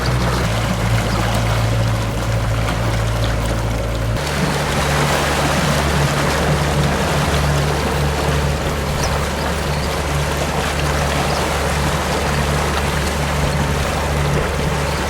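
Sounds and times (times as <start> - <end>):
low engine drone: 0.0 - 15.0
water rushing along hull: 0.0 - 15.0.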